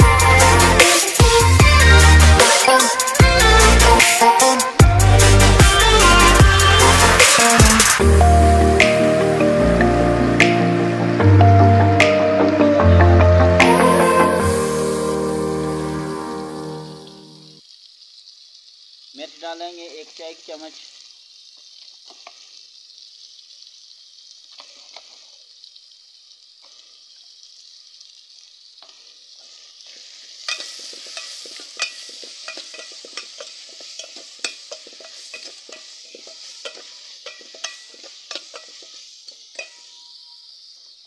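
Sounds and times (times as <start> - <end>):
food sizzling in oil: 0.0 - 41.0.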